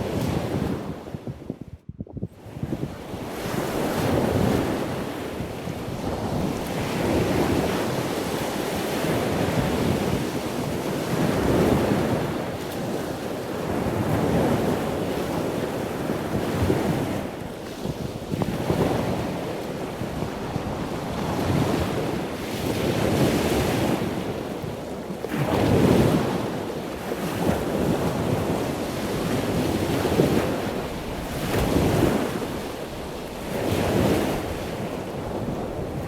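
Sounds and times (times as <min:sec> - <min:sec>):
ocean waves surf: 0:00.0 - 0:01.0, 0:02.9 - 0:36.0.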